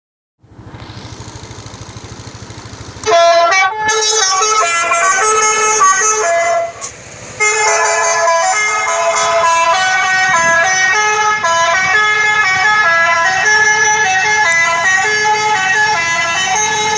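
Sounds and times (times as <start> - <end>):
electronic horn melody: 3.0 - 16.9.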